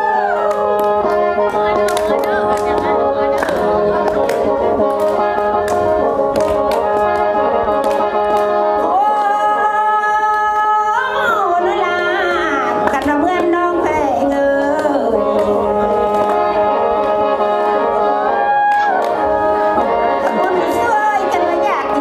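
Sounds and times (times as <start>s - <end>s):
mouth organ chords over drone: 0.0s - 22.0s.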